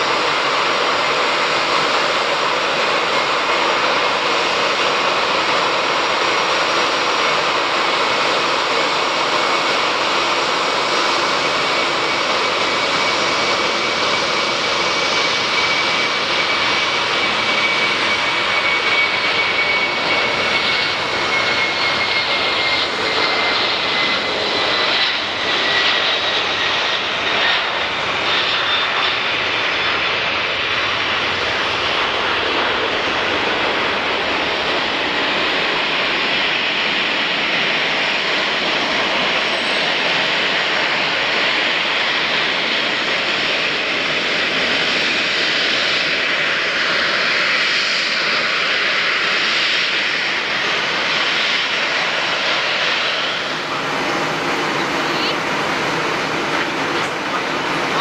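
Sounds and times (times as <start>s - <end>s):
high jet engine whine: 0.0s - 58.0s
jet engine roar: 0.0s - 58.0s.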